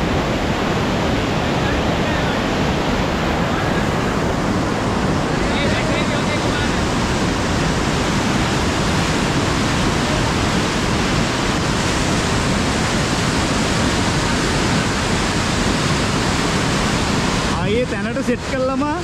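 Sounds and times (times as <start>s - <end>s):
water rushing through weir gate: 0.0s - 19.0s.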